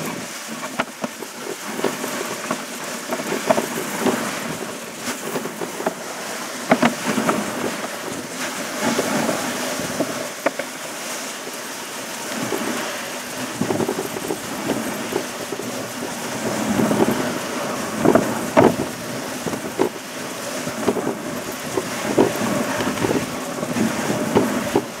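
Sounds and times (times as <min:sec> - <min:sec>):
sled knocks and rattles: 0:00.0 - 0:25.0
sled runners scraping snow: 0:00.0 - 0:25.0.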